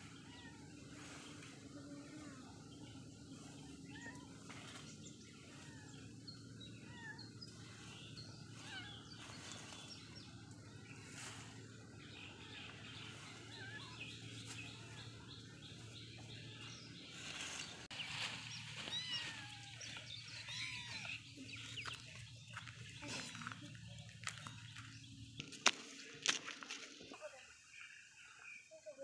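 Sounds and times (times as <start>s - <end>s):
steady low hum: 0.0s - 27.0s
small birds chirping: 0.0s - 29.0s.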